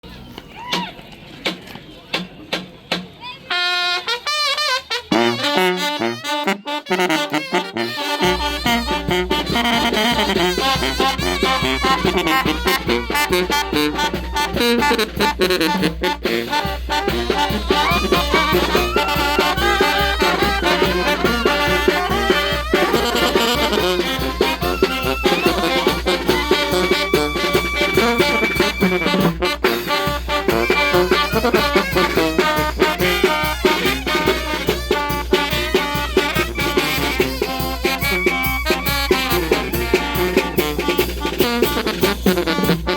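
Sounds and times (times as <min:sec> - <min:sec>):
brass band playing: 0:03.5 - 0:42.9.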